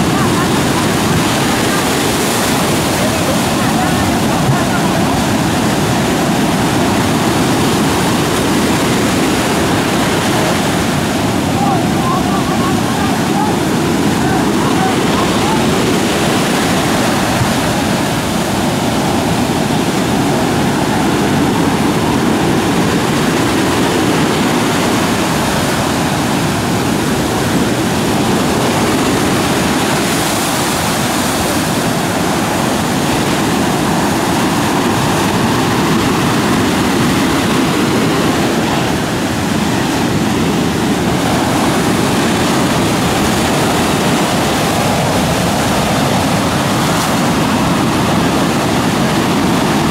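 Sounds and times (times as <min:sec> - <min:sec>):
rough surf breaking: 0:00.0 - 0:49.9.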